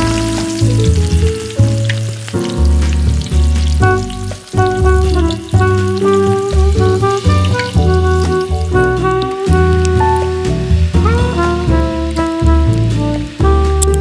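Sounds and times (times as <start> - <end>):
background music with bass line: 0.0 - 14.0
onions sizzling in a pot: 0.0 - 14.0.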